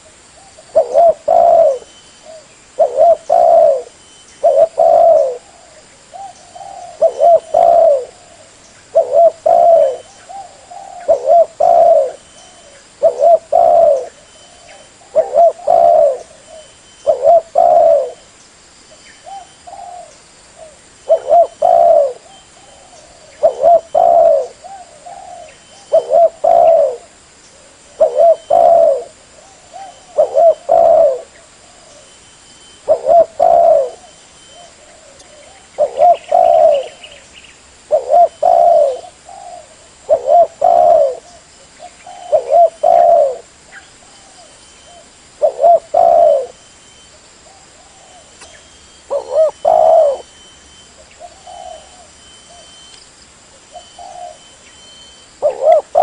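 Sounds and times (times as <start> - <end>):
dove cooing: 0.0 - 18.3, 19.2 - 32.1, 32.8 - 37.2, 37.8 - 46.7, 47.4 - 52.9, 53.6 - 56.0.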